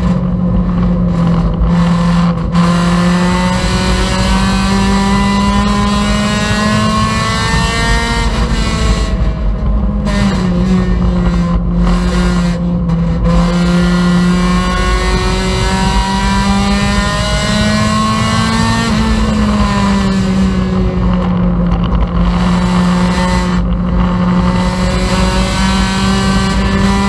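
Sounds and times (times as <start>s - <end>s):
racing car engine revving: 0.0s - 27.0s.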